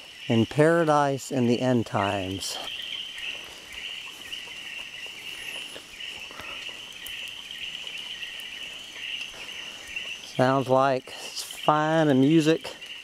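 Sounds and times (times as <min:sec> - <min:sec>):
frogs chirping: 0:00.0 - 0:13.0.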